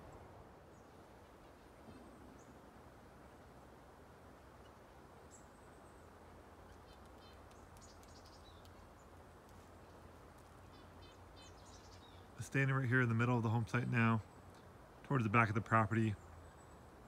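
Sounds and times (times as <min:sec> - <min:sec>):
faint bird chirps: 0:00.0 - 0:02.7, 0:04.5 - 0:17.0.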